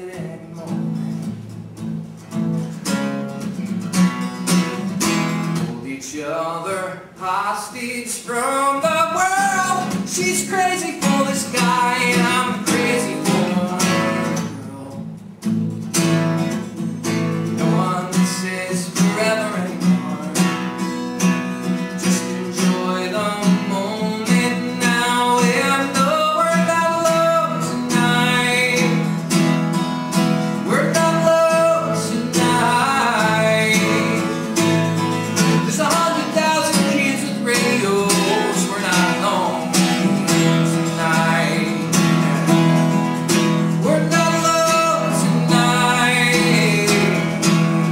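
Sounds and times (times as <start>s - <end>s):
man singing: 0.0s - 1.3s, 5.6s - 15.2s, 17.4s - 29.4s, 30.4s - 47.9s
acoustic guitar strumming: 0.0s - 47.9s.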